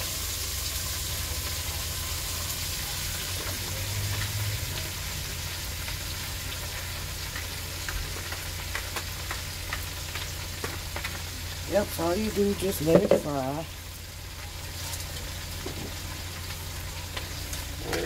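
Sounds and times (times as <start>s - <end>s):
cabbage sizzling in grease: 0.0s - 18.0s
grease popping and crackling: 0.0s - 18.0s.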